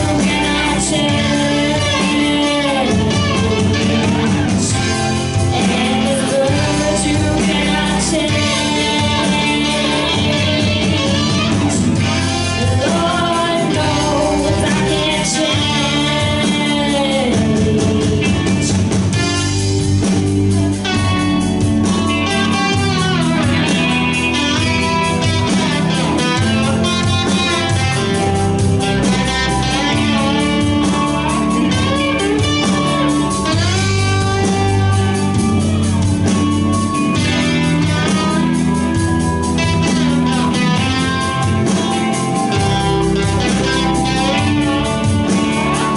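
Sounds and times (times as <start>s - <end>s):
person singing: 0.0s - 19.7s, 22.2s - 45.9s
bass guitar: 0.0s - 45.9s
electric guitars: 0.0s - 45.9s.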